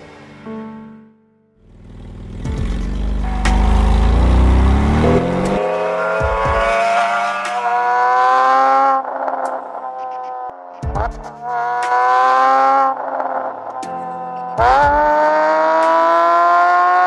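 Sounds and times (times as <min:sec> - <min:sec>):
car engine accelerating: 0:01.6 - 0:10.5, 0:11.4 - 0:13.8, 0:14.5 - 0:17.0.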